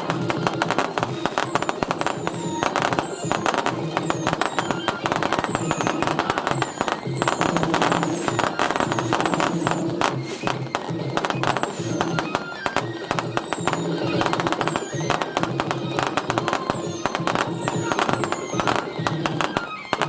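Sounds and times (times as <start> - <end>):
fireworks crackling and banging: 0.0 - 20.0
fireworks whistles falling in pitch: 0.0 - 20.0.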